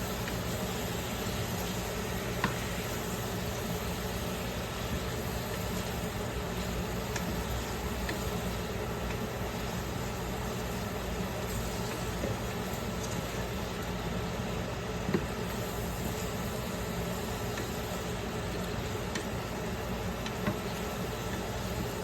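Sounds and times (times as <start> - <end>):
low machine hum with hiss: 0.0 - 22.0.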